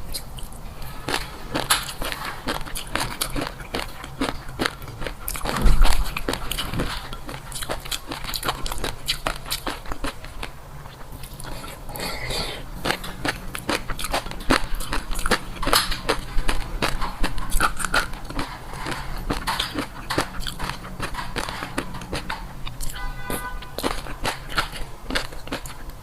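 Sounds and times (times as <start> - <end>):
crunchy biting and chewing: 0.0 - 26.0.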